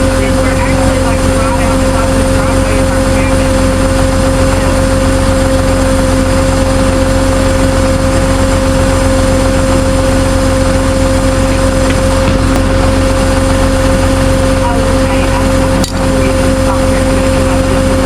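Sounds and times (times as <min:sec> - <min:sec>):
vehicle engine rumbling with whine: 0:00.0 - 0:18.0.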